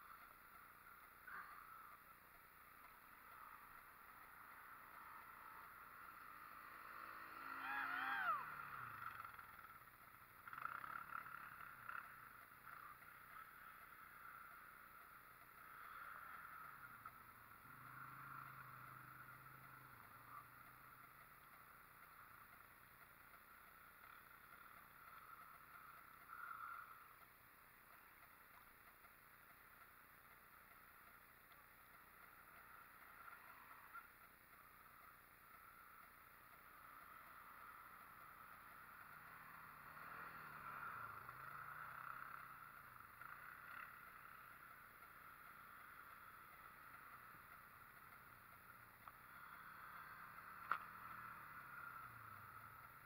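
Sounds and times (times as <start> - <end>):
atv engine drone: 0.0 - 53.0.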